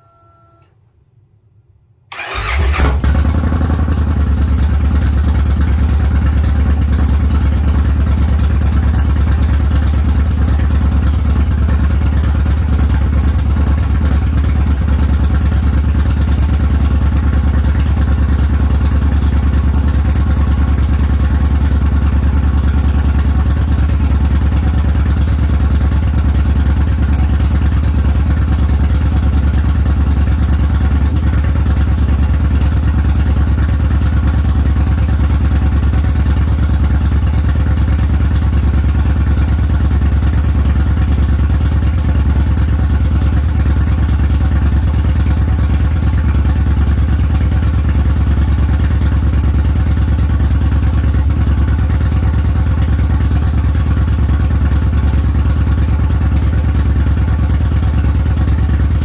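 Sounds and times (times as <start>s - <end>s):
motorcycle engine idling: 2.1s - 59.0s.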